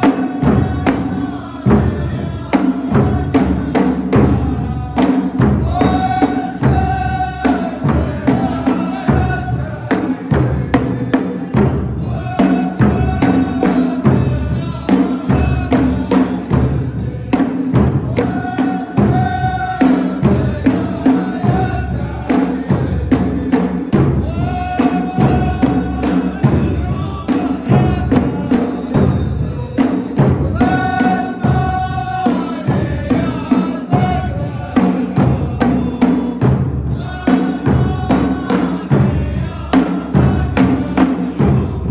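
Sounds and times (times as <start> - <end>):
frame drums beating: 0.0 - 41.9
group of voices chanting: 0.0 - 41.9.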